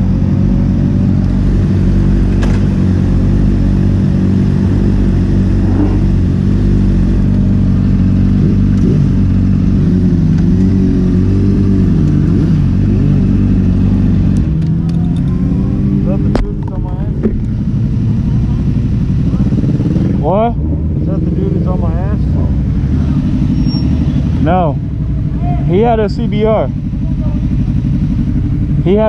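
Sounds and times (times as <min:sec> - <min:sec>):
sport bike engine running: 0:00.0 - 0:29.0.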